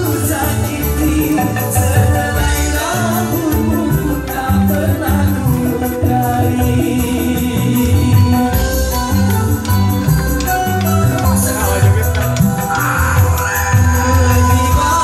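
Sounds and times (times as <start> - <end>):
band music: 0.0 - 15.0
tambourine and shaker percussion: 0.0 - 15.0.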